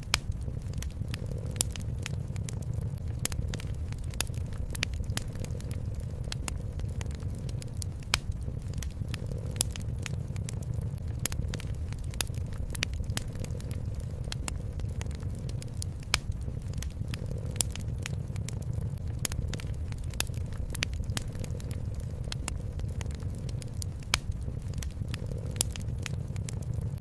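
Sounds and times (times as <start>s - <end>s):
cat purring: 0.0s - 27.0s
wood fire crackling and popping: 0.0s - 27.0s.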